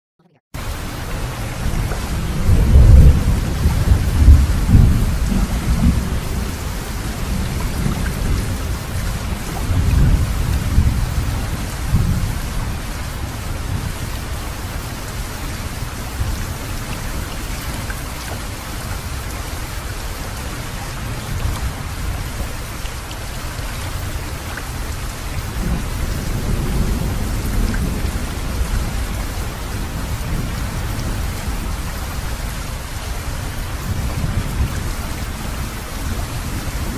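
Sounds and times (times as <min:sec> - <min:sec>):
steady rain: 0:00.6 - 0:36.9
thunder rumbling: 0:00.6 - 0:36.9.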